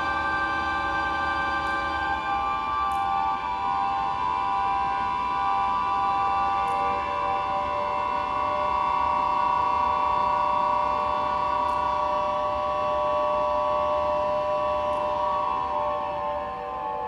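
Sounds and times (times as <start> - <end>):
recorders holding steady tones: 0.0 - 17.0.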